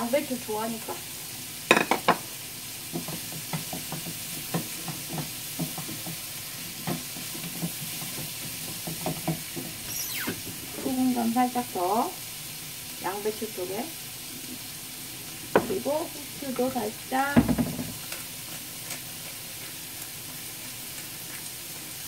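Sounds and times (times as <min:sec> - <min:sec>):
vegetables sizzling in frying pan: 0:00.0 - 0:22.0.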